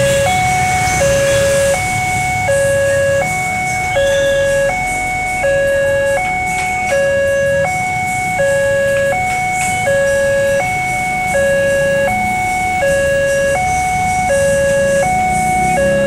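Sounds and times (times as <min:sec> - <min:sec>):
road traffic rumble: 0:00.0 - 0:16.0
two-tone crossing alarm: 0:00.0 - 0:16.0.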